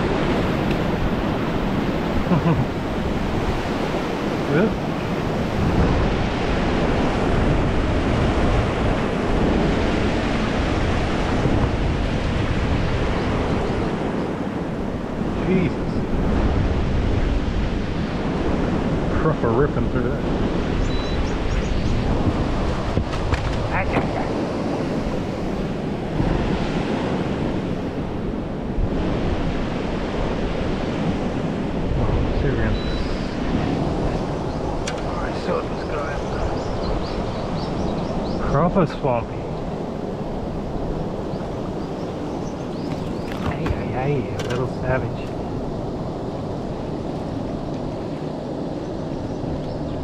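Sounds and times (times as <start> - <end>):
water rushing: 0.0 - 50.0
wind buffeting microphone: 0.0 - 50.0.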